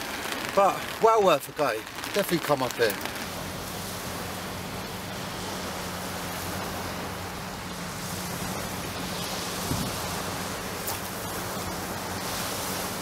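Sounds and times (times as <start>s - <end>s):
waves washing on shingle: 0.0s - 13.0s.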